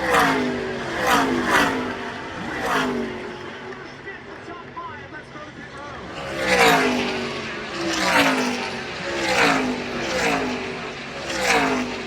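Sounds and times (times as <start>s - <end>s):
race cars passing at speed: 0.0s - 12.0s.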